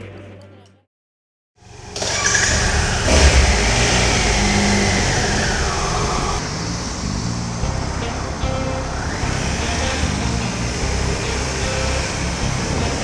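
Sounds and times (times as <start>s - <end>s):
motorcycle engine revving: 1.6s - 13.0s.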